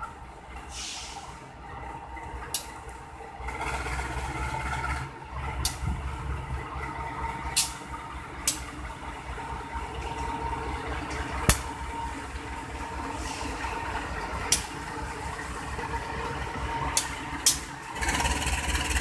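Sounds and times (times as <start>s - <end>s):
locomotive engine rumbling: 0.0s - 19.0s
wheels clacking on rail joints: 1.8s - 19.0s.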